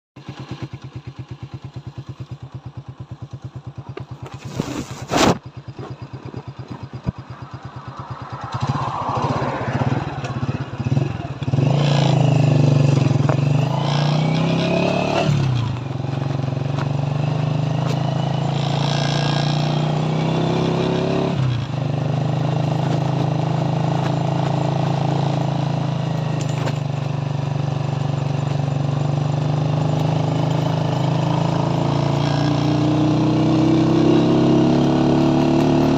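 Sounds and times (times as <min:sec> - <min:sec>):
motorcycle engine: 0:00.2 - 0:35.9.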